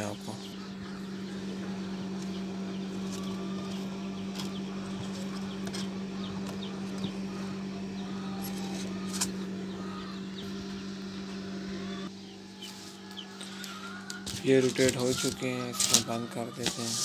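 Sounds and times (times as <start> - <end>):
low electrical hum: 0.0 - 17.0
poultry peeping: 0.0 - 17.0.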